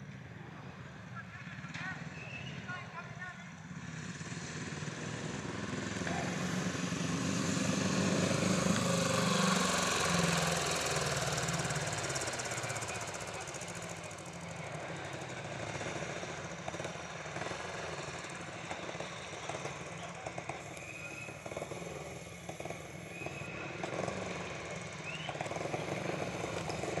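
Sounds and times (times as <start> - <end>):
motorcycle engines at low revs: 0.0 - 27.0.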